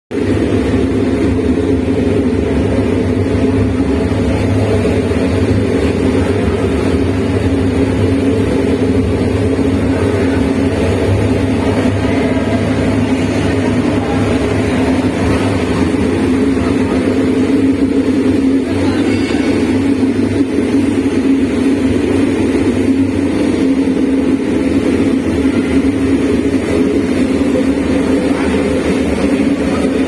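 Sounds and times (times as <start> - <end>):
furnace burner roaring: 0.1 - 30.0.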